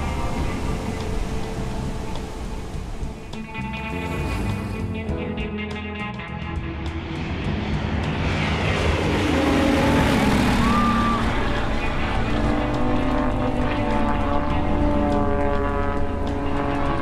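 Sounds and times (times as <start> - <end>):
aircraft flying past: 0.0 - 5.1, 6.4 - 17.0.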